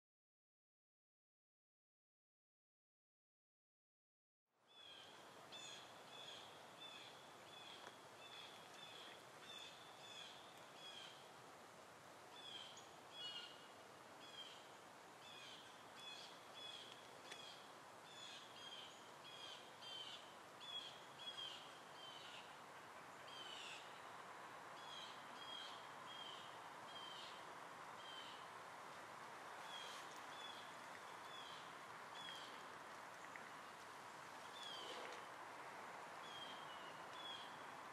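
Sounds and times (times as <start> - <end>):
outdoor background noise: 4.5 - 37.9.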